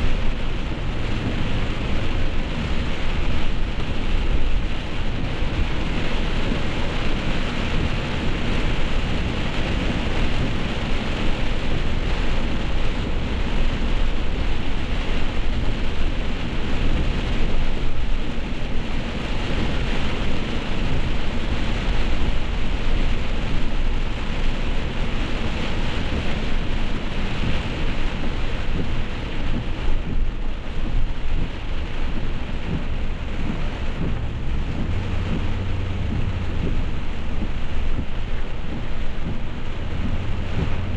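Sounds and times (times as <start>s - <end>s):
deep rumble: 0.0s - 40.9s
heavy rain hiss: 0.0s - 40.9s.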